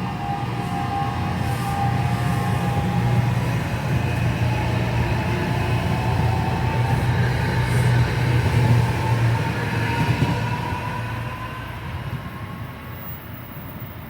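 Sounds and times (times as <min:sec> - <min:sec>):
passenger train running past: 0:00.0 - 0:14.0.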